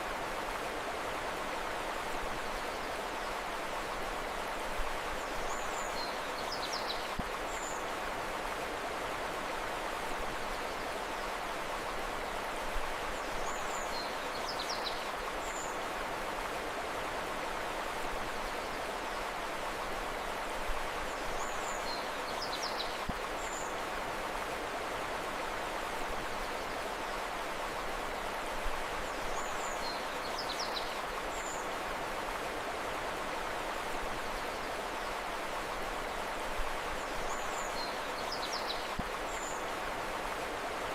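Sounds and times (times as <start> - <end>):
rushing river water: 0.0 - 40.9.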